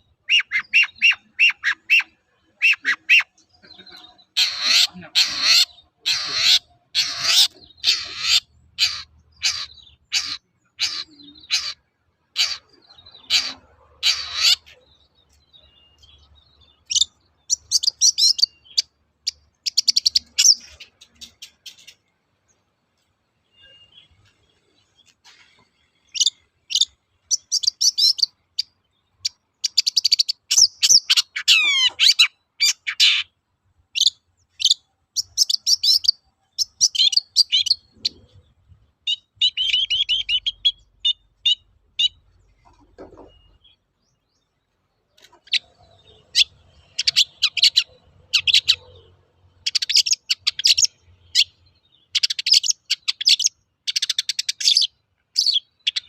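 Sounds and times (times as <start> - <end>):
bird singing chattering notes: 0.0 - 22.2, 23.5 - 33.3, 34.0 - 56.0.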